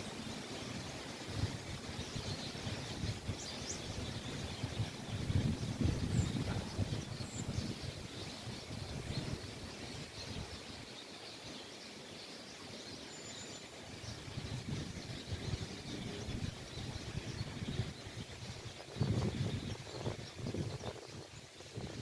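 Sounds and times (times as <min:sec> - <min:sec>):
small birds chirping: 0:00.0 - 0:22.0
wind rumble on microphone: 0:00.6 - 0:10.9, 0:13.9 - 0:22.0.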